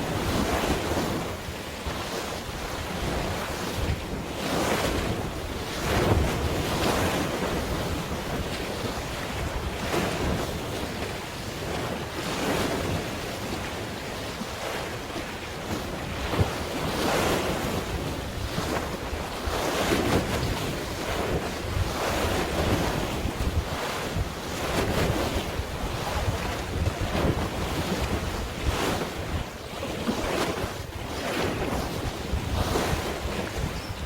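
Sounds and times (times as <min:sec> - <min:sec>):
waves washing in: 0:00.0 - 0:34.0
wind buffeting microphone: 0:00.0 - 0:34.0.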